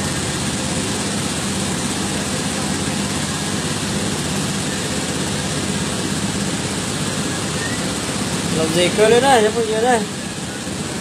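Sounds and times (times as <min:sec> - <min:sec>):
small boat motor droning: 0:00.0 - 0:11.0.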